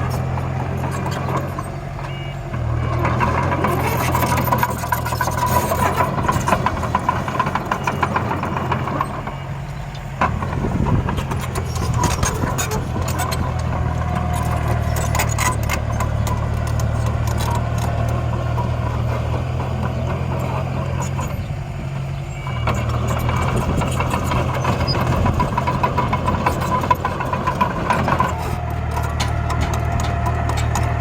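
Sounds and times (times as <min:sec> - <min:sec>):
miniature vehicle engine drone: 0:00.0 - 0:31.0
soil and stones rattling: 0:02.6 - 0:31.0.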